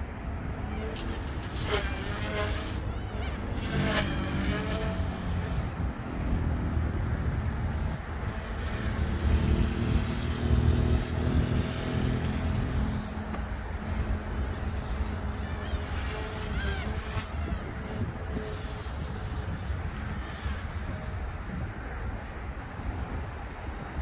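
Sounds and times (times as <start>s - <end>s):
motor whine: 0.0s - 24.0s
rotor blades beating: 0.1s - 23.4s.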